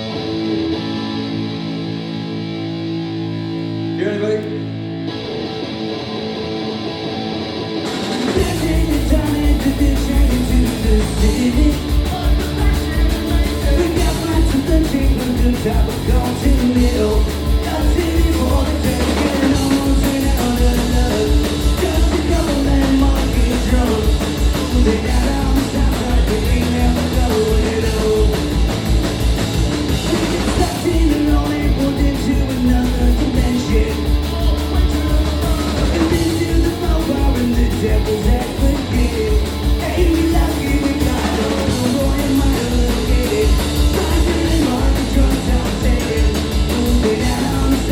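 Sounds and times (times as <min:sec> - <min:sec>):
electric guitar: 0:00.0 - 0:47.9
punk rock band playing live: 0:00.0 - 0:47.9.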